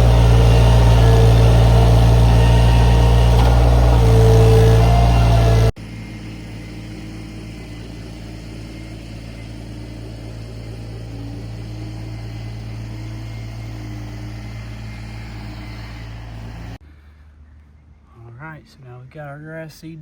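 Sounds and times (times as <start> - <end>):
skid steer engine running: 0.0 - 16.8.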